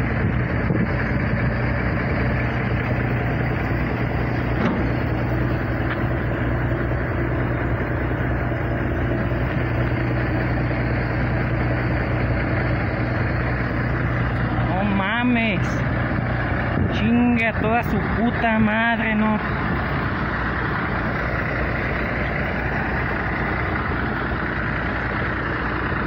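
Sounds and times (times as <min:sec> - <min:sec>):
freight train rumbling: 0:00.0 - 0:26.0.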